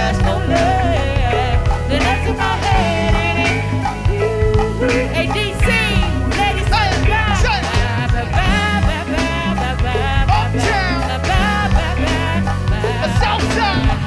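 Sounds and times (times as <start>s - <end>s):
bass line: 0.0s - 14.0s
drums: 0.0s - 14.0s
person singing: 0.0s - 14.0s.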